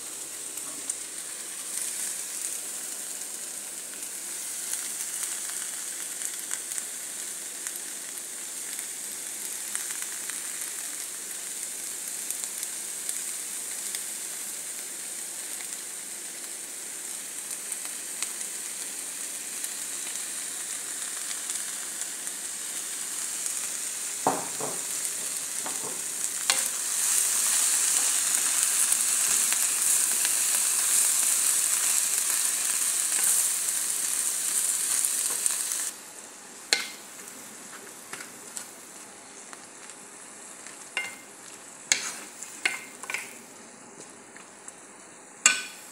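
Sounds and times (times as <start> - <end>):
vegetables sizzling in a pan: 0.0 - 45.9.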